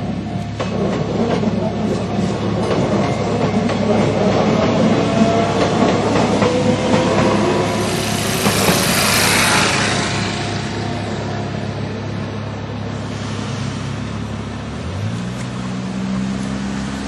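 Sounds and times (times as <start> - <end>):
low drone: 0.0 - 15.0
electric train passing: 0.0 - 16.2.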